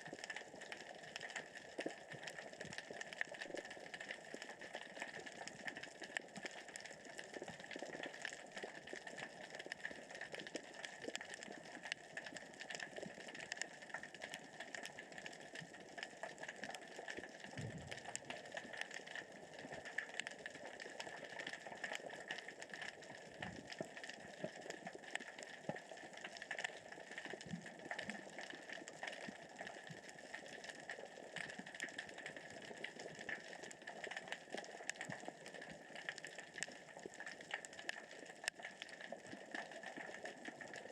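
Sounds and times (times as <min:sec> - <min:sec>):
small rocks rolling underwater: 0:00.0 - 0:40.9.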